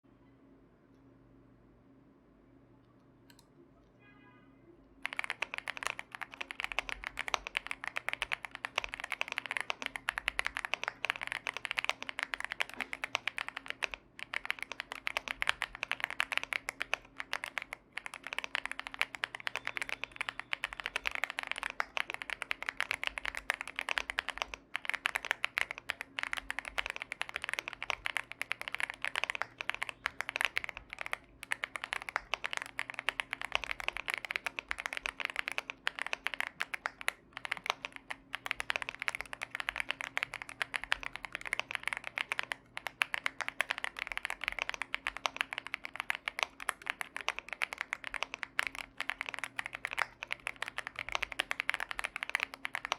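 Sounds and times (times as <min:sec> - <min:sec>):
faint steady hum: 0:00.0 - 0:52.9
typing on mechanical keyboard: 0:05.0 - 0:52.9.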